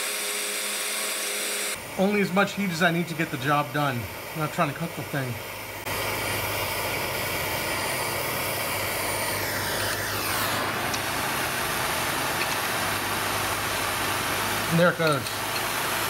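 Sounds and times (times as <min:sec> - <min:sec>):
propane torch hissing: 0:01.7 - 0:16.0.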